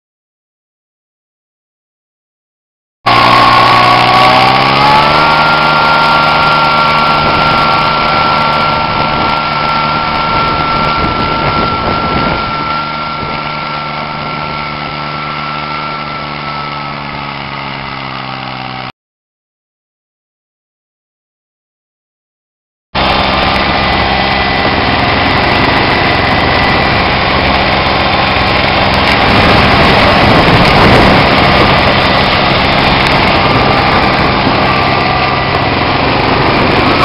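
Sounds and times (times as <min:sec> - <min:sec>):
diesel tractor engine running: 0:03.1 - 0:18.9, 0:23.0 - 0:37.0
high whine: 0:03.1 - 0:18.9, 0:23.0 - 0:37.0.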